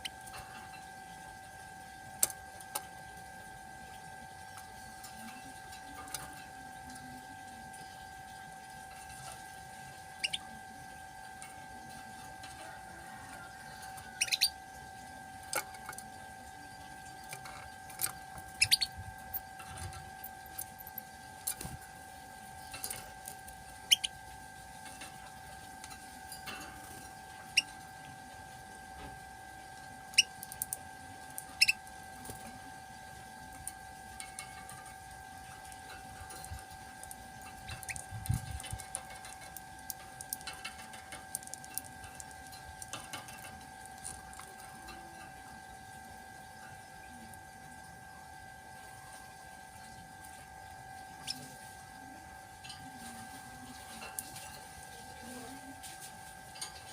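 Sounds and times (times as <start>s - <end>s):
canary chirping: 0.0s - 2.4s, 3.1s - 47.5s, 51.0s - 51.6s
steady hum: 0.0s - 56.9s.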